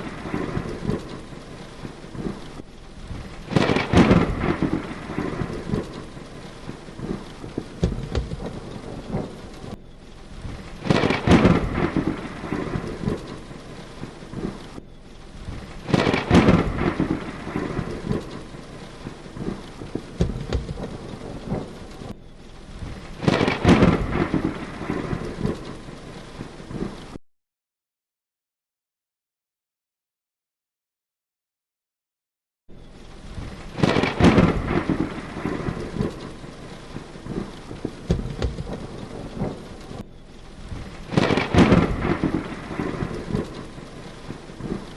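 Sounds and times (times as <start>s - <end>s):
heavy rain: 0.0s - 27.2s, 32.7s - 44.9s
thunder claps rumbling: 0.0s - 27.2s, 32.9s - 44.9s.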